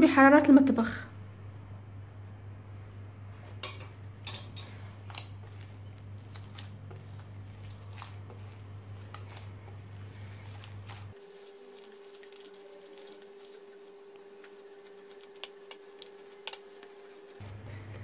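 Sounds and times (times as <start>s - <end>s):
low steady hum: 0.0s - 18.0s
dough squishing: 3.0s - 18.0s.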